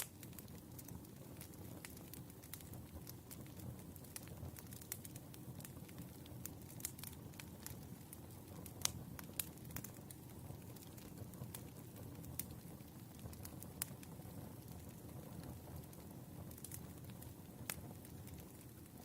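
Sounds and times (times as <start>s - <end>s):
low rumble of burning logs: 0.0s - 19.0s
wood fire crackling and popping: 0.0s - 19.0s.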